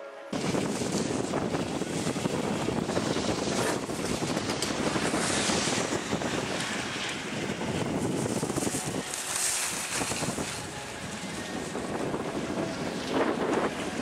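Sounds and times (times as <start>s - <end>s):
wind buffeting microphone: 0.3s - 14.0s.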